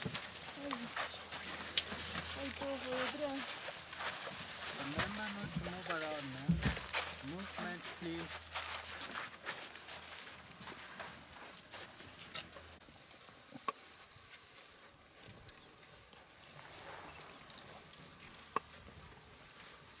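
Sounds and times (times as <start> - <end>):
faint rustling and crackling: 0.0 - 20.0.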